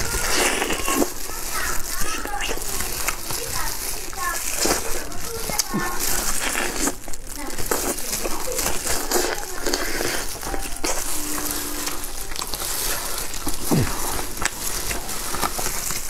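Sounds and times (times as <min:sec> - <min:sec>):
crispy chicken crackling: 0:00.0 - 0:16.0.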